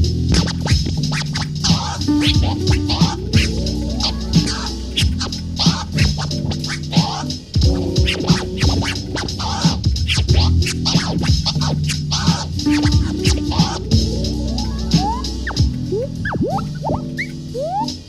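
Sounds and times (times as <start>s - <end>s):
backing beat: 0.0s - 18.0s
vinyl record scratching: 0.0s - 18.0s.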